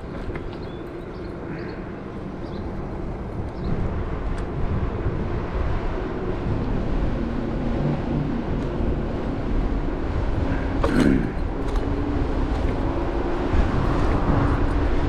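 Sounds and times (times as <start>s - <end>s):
road rumble: 0.0s - 15.0s
wind buffeting microphone: 0.0s - 15.0s.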